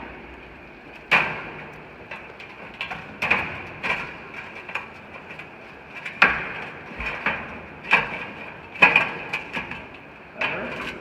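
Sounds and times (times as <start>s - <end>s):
metal knocks and clanks: 0.9s - 11.0s.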